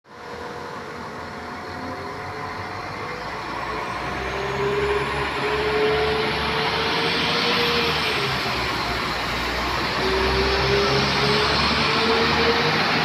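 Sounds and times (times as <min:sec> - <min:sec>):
diesel train engine rumble and whine: 0:00.1 - 0:13.0.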